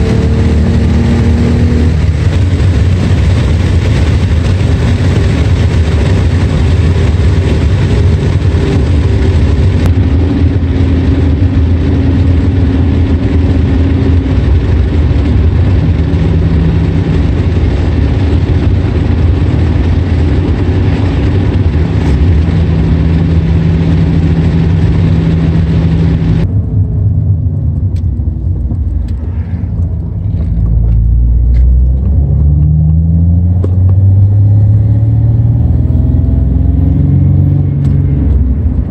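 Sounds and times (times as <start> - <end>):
car engine drone: 0.0 - 38.9
road noise: 0.0 - 38.9.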